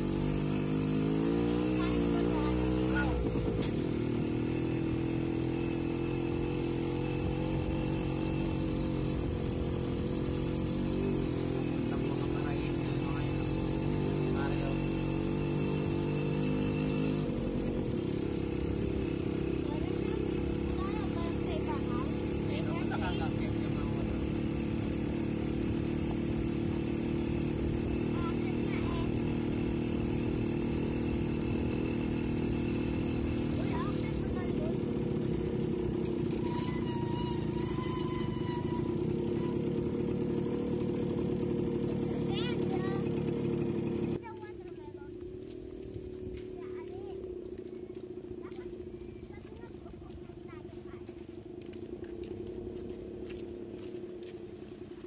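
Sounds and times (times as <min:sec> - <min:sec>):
vehicle engine on gravel road: 0:00.0 - 0:55.0.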